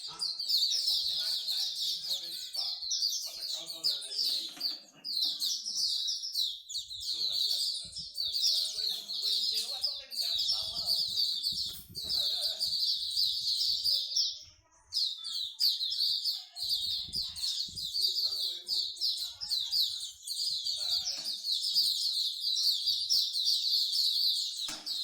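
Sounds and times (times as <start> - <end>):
songbird chattering song: 0.0 - 25.0.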